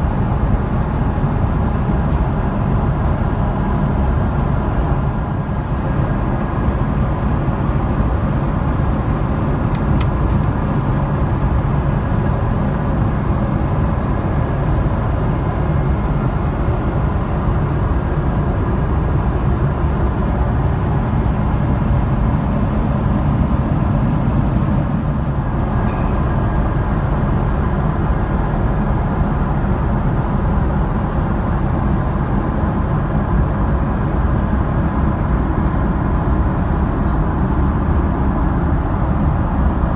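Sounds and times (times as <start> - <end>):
airplane cabin rumble and hiss: 0.0 - 39.9.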